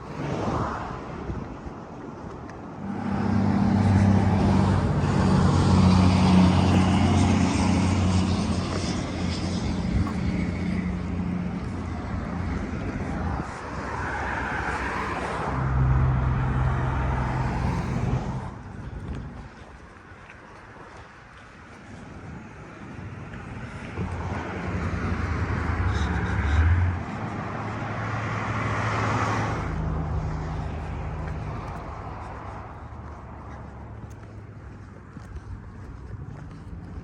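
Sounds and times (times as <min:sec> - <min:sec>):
vehicles passing on highway: 0:00.0 - 0:37.0.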